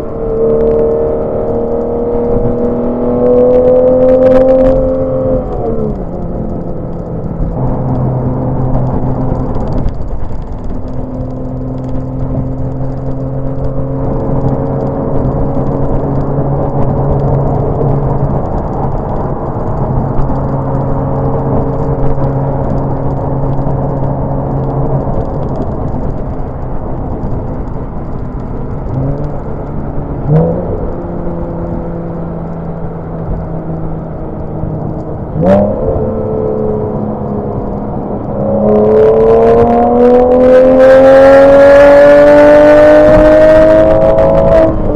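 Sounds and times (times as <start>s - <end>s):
car engine cruising: 0.0s - 44.9s.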